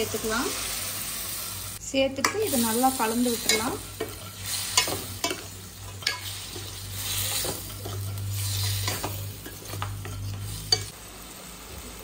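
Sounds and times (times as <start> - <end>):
sizzling masala: 0.0 - 12.0
ladle stirring food in pan: 0.6 - 11.0.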